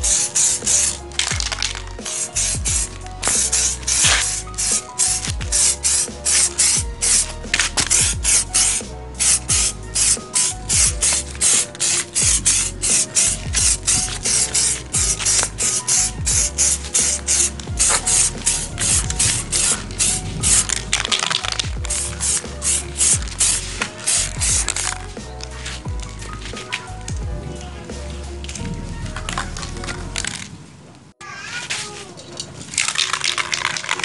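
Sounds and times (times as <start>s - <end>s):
bass line: 0.0s - 11.5s, 12.2s - 30.2s
hissing pulses beat: 0.0s - 28.7s.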